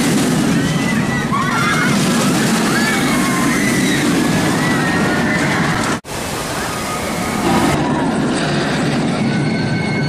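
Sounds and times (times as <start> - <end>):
roller coaster rushing roar: 0.0 - 10.0.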